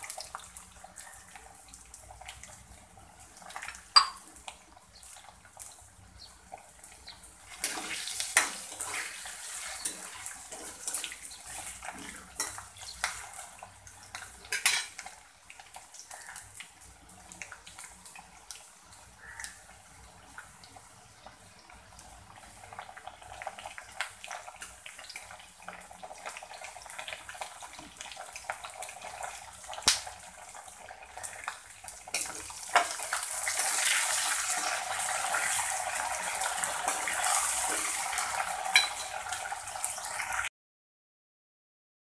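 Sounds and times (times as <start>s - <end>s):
food sizzling in hot oil: 0.0s - 40.5s.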